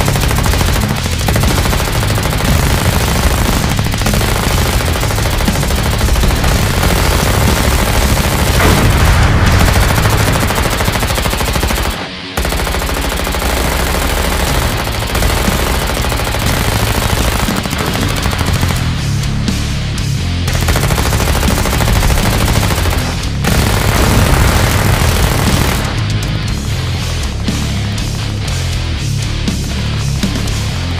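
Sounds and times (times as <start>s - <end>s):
machine-gun fire: 0.0s - 19.2s, 20.5s - 27.9s.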